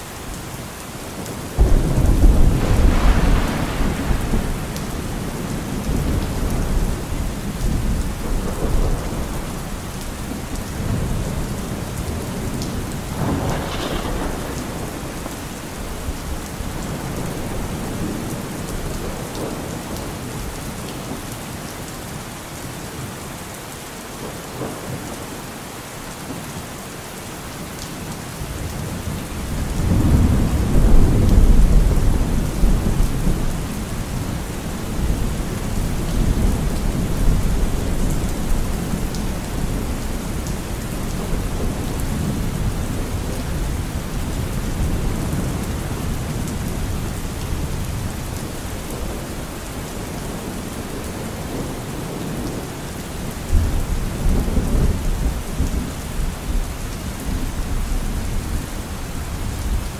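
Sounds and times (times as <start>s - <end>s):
steady rain: 0.0s - 59.9s
thunder rumbling: 1.2s - 20.5s, 29.0s - 59.9s.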